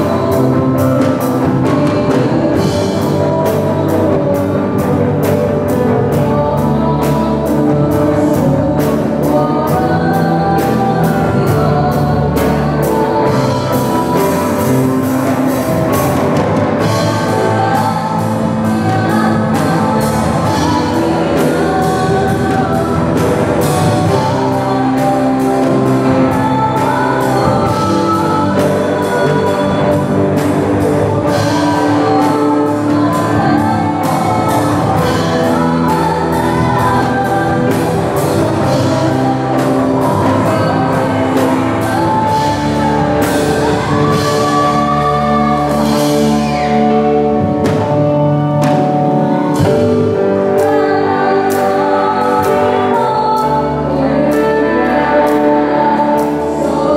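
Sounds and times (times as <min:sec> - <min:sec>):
live rock band playing: 0:00.0 - 0:56.9
person singing: 0:00.0 - 0:56.9.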